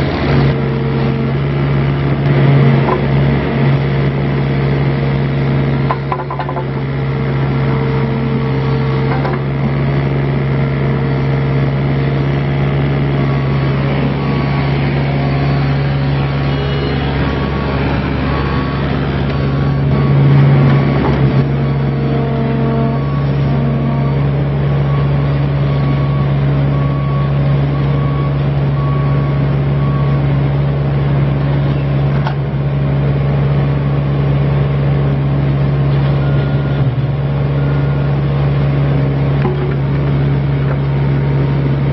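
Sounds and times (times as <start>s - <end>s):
mini excavator diesel engine running: 0.0s - 41.9s.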